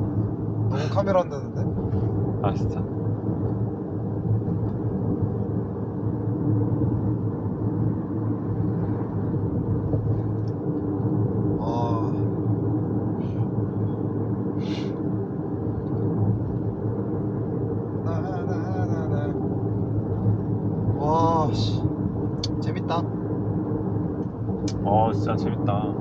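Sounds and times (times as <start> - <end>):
car road rumble and engine drone: 0.0 - 26.0.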